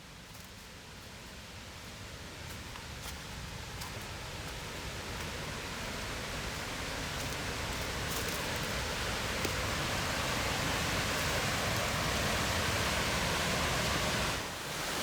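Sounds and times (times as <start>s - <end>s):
rushing creek water: 0.2s - 15.0s.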